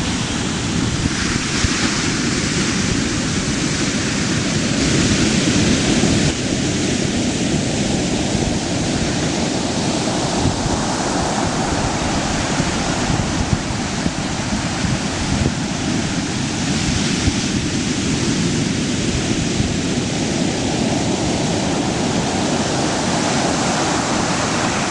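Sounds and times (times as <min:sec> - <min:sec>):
ocean waves crashing: 0:00.0 - 0:24.9
wind rumbling on microphone: 0:00.0 - 0:24.9.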